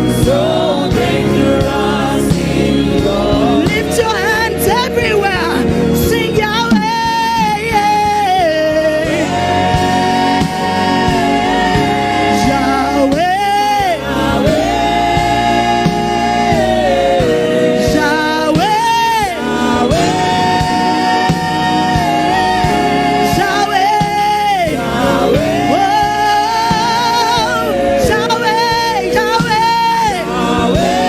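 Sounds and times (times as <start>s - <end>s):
choir singing gospel: 0.0s - 31.0s
live band with steady beat: 0.0s - 31.0s.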